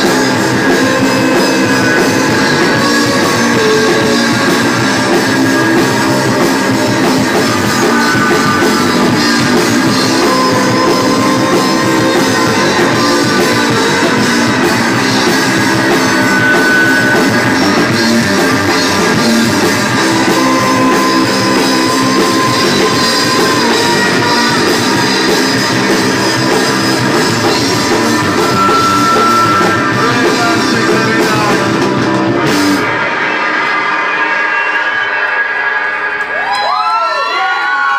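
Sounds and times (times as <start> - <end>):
crowd noise: 0.0 - 37.9
live rock band playing: 0.0 - 37.9.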